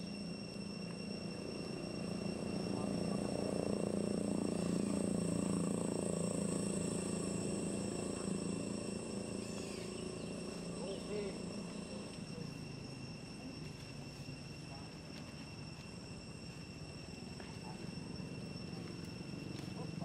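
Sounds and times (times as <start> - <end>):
insects trilling: 0.0 - 20.0
low hum: 0.0 - 20.0.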